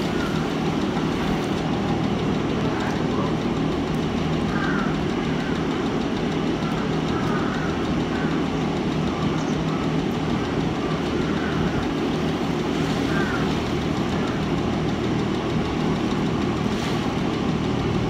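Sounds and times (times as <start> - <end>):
mechanical drone with low hum: 0.0 - 18.0.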